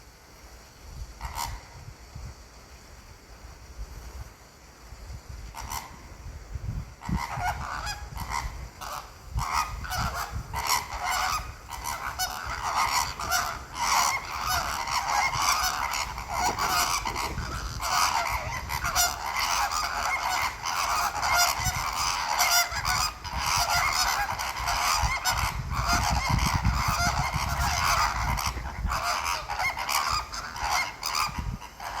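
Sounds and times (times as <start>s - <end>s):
flamingos honking: 1.2s - 1.7s, 5.5s - 6.0s, 7.0s - 32.0s.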